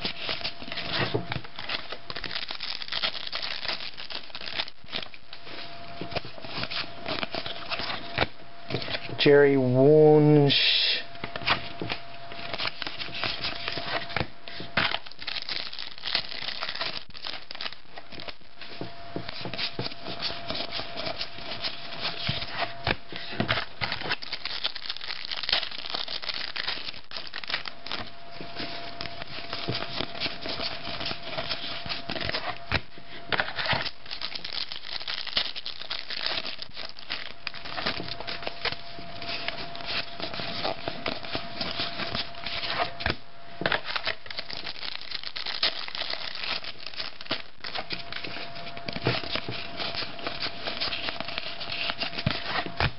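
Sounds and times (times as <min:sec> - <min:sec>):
faint hum: 0:00.0 - 0:52.9.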